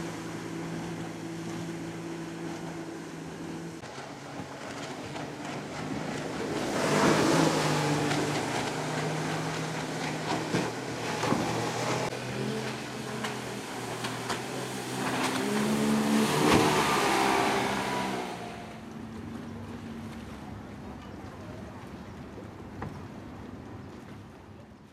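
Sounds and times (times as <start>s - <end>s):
water slapping against hulls: 0.0s - 24.5s
speedboat outboard motors: 0.0s - 24.9s.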